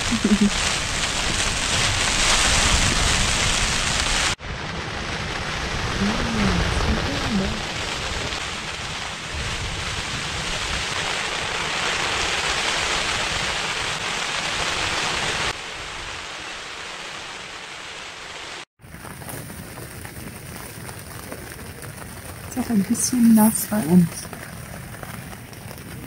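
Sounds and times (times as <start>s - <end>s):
rain on a tent: 0.0s - 26.0s.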